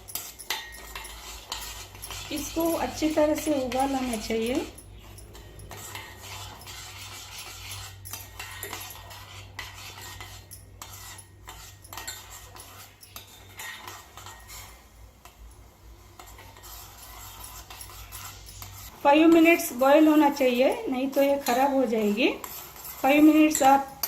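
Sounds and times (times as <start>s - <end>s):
spoon clinking against pan: 0.0s - 24.0s
spoon stirring and scraping pan: 0.0s - 24.0s.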